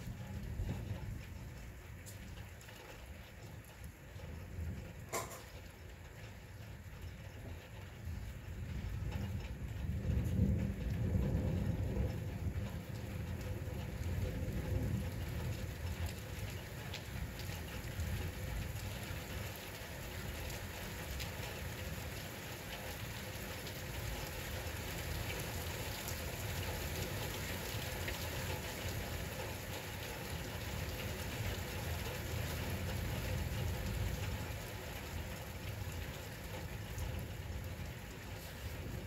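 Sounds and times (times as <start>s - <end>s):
heavy rain on hard surfaces: 0.0s - 39.0s.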